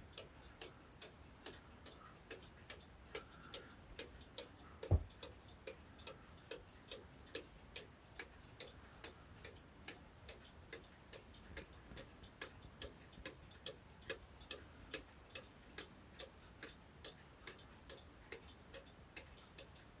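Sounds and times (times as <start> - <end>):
clock ticking: 0.0 - 20.0.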